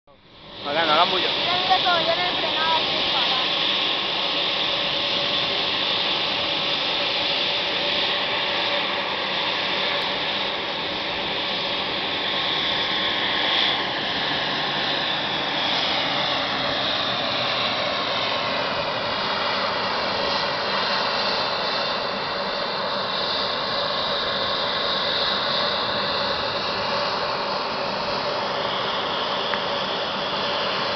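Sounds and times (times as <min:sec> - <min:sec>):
jet engine whine: 0:00.1 - 0:30.9
turboprop aircraft roar: 0:00.1 - 0:30.9.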